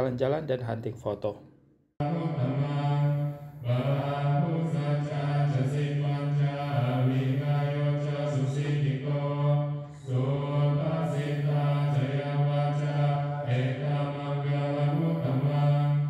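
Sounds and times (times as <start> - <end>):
low monotone chanting: 2.0 - 16.0.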